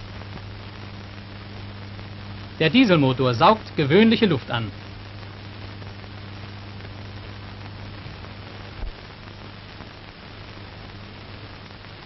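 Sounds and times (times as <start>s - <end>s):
low mains hum: 0.0s - 12.0s
steady hiss: 0.0s - 12.0s.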